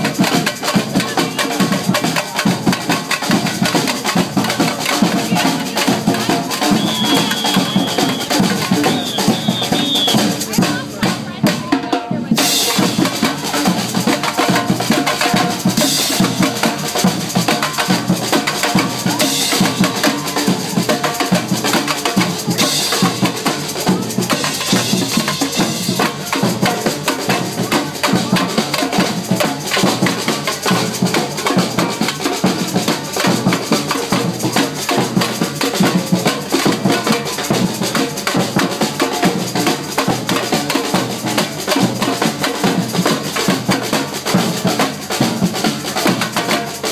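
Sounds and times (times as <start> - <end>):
samba drums beating: 0.0 - 46.9.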